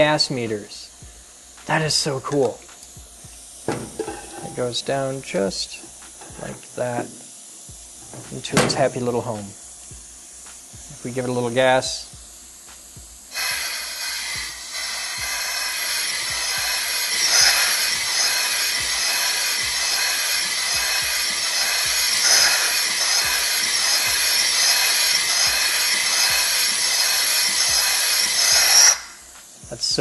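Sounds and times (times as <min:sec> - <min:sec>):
compressed air hissing: 0:00.0 - 0:30.0.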